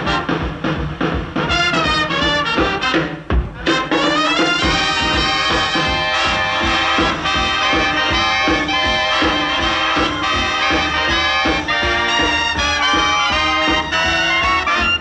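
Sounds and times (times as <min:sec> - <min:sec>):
band music with brass: 0:00.0 - 0:15.0.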